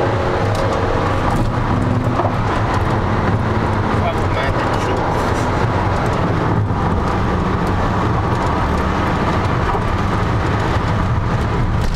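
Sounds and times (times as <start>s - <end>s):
car engine at speed: 0.0s - 11.9s
tyre and wind noise: 0.0s - 11.9s.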